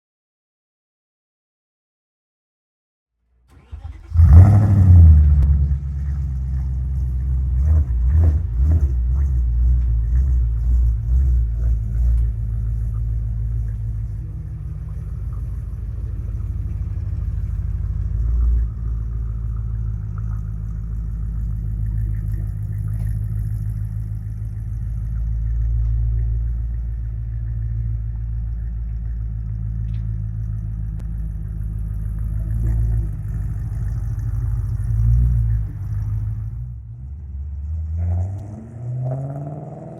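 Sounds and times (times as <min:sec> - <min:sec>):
car engine starting and idling: 0:03.4 - 0:39.9.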